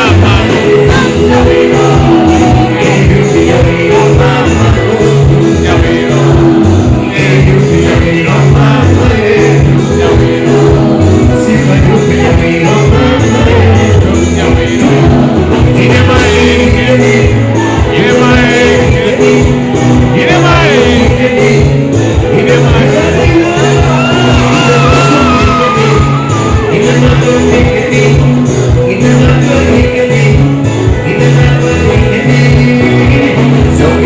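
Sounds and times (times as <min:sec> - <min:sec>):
live band music through pa: 0:00.0 - 0:34.0
person singing: 0:00.0 - 0:34.0.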